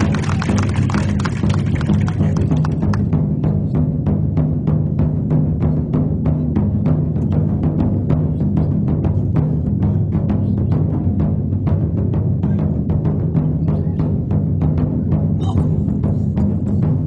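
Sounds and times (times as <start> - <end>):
large drums beating: 0.0 - 17.0.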